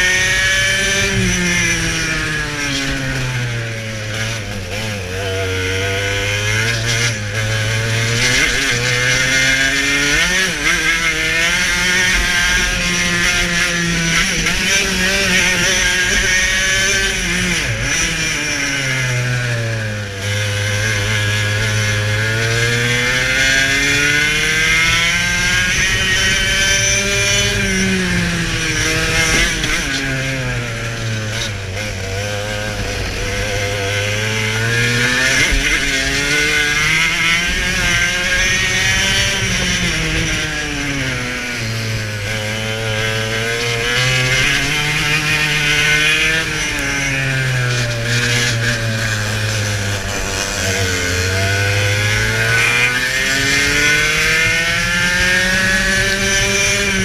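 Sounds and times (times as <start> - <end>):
kart engine racing: 0.0 - 57.0.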